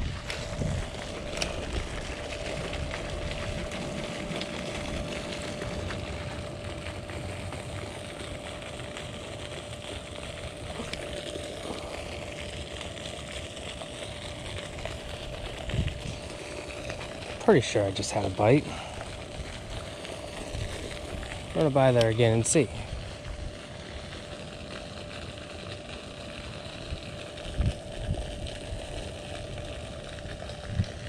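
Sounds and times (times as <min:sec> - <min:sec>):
steady mid-pitched hum: 0:00.0 - 0:31.0.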